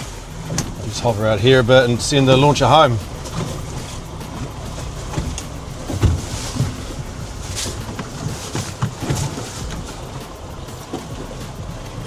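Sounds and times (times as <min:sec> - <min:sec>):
outboard motor running: 0:00.0 - 0:12.0
water noise: 0:00.0 - 0:12.0
wind: 0:00.0 - 0:12.0
dull knocks: 0:00.4 - 0:12.0.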